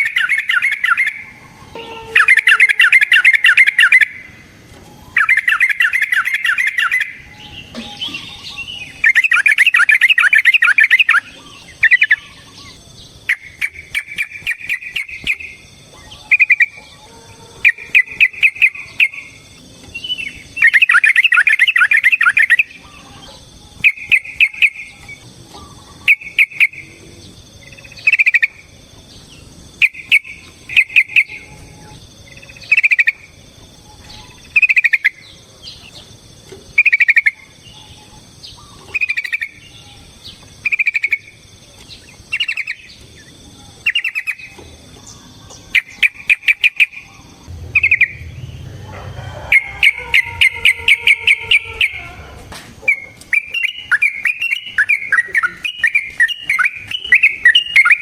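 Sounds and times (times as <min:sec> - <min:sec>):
bulbul chattering song: 0:00.0 - 0:36.1, 0:36.7 - 0:52.2, 0:52.8 - 0:58.0.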